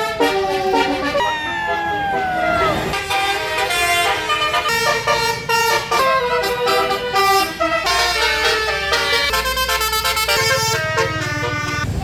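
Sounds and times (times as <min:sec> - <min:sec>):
multi-trumpet air horn melody: 0:00.0 - 0:11.9.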